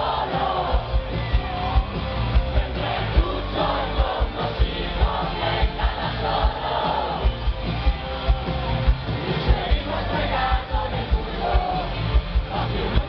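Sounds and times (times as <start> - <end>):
crowd singing along: 0.0 - 13.0
live rock band playing: 0.0 - 13.0.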